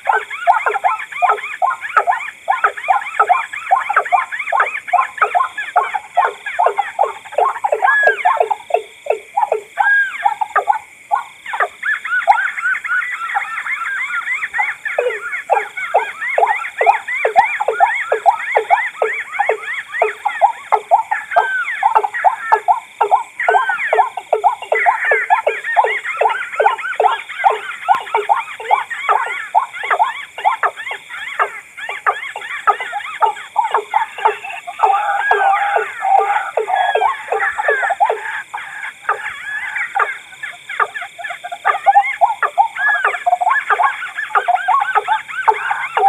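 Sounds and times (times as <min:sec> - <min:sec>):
water birds calling: 0:00.0 - 0:46.0.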